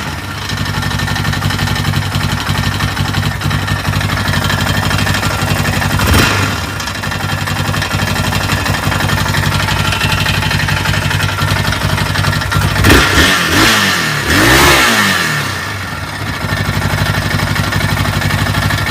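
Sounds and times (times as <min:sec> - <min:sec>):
quad engine idling and revving: 0:00.0 - 0:18.9.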